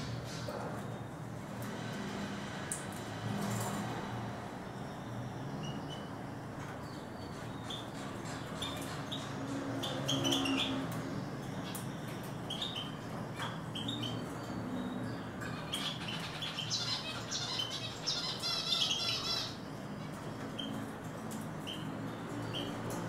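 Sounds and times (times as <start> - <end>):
birds twittering: 0.0 - 23.0
birds chirping: 2.7 - 23.0.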